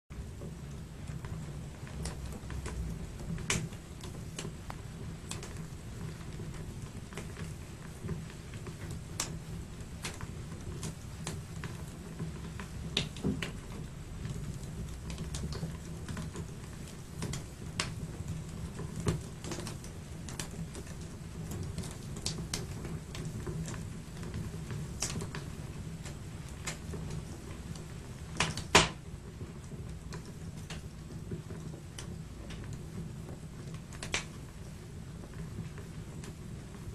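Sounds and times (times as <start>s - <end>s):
low fire rumble: 0.1s - 36.9s
wood fire crackling and popping: 0.1s - 36.9s.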